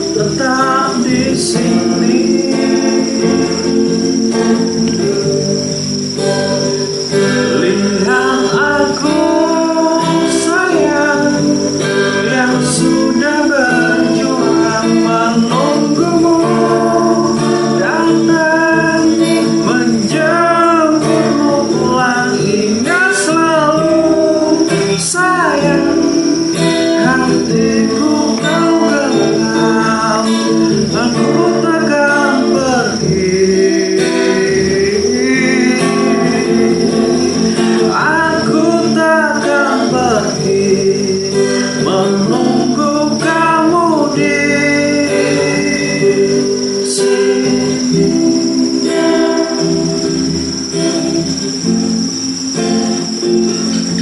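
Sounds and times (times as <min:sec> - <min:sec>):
acoustic guitar strummed and picked: 0:00.0 - 0:54.0
high cricket trill: 0:00.0 - 0:54.0
person singing: 0:00.0 - 0:54.0.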